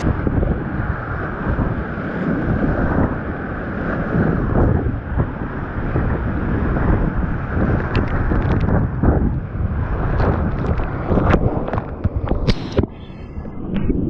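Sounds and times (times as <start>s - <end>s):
water buffeting microphone: 0.0s - 14.0s.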